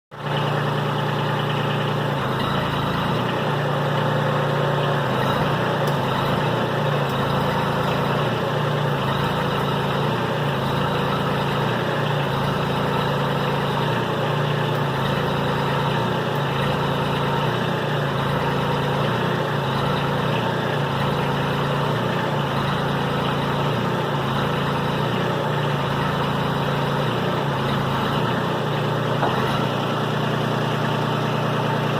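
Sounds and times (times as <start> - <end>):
engine idling: 0.1 - 31.9.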